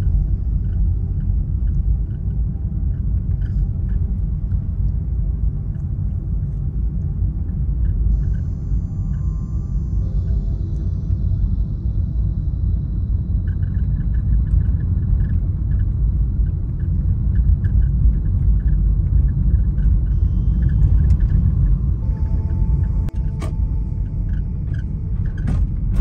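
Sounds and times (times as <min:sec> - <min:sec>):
car road and tyre rumble: 0:00.0 - 0:09.7, 0:11.0 - 0:26.0.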